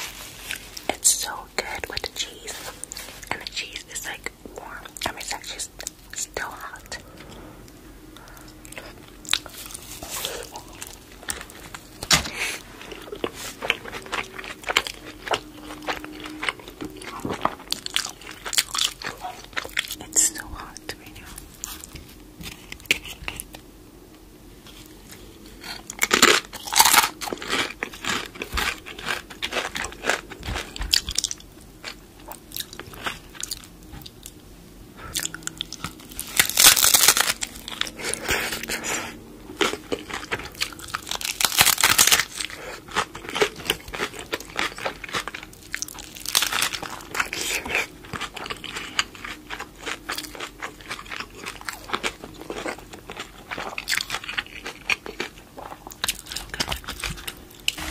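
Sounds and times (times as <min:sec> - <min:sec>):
chewing: 0:08.1 - 0:23.6, 0:24.7 - 0:34.4, 0:35.0 - 0:57.9
crunchy taco bites: 0:08.2 - 0:23.6, 0:25.4 - 0:34.4, 0:35.0 - 0:57.9.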